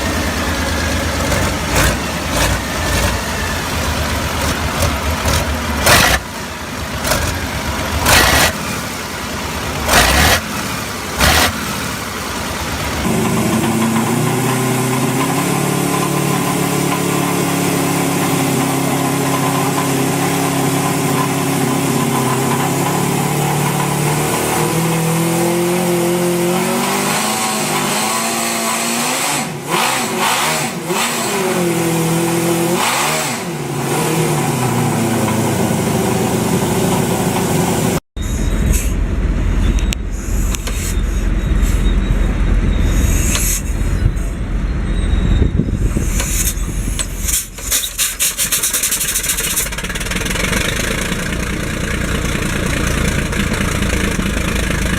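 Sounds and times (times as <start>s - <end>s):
engine revving: 0.0s - 54.9s.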